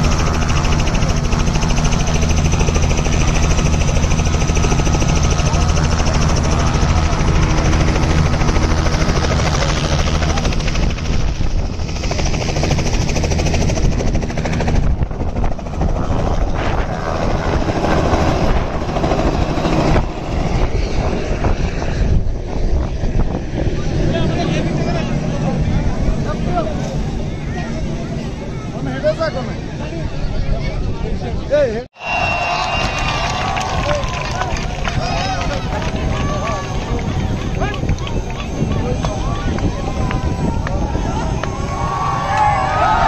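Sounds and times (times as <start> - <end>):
helicopter rotor beating drone: 0.0 - 43.0.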